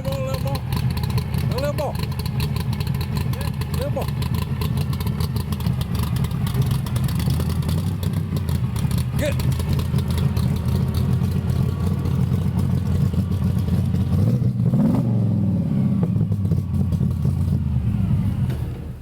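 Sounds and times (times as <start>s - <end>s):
engine rev: 0.0s - 19.0s
vehicle engine idling: 0.0s - 19.0s.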